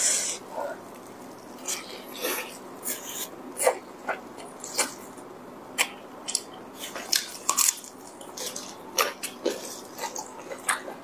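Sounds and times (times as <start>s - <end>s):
person chewing with wet smacks: 0.6s - 11.0s.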